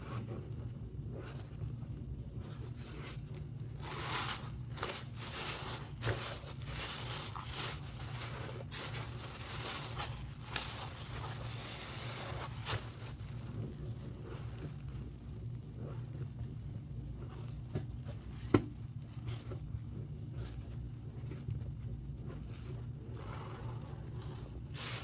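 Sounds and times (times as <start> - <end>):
sponge squelching foam: 0.0 - 25.0
steady low hum: 0.0 - 25.0.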